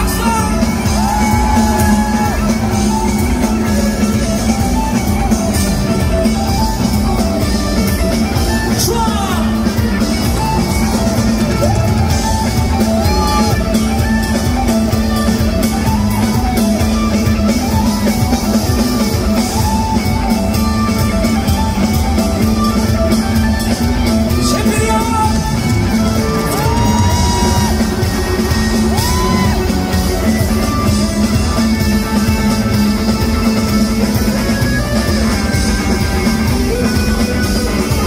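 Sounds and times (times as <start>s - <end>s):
fans shouting and singing along: 0.0s - 38.0s
live rock band playing: 0.0s - 38.0s.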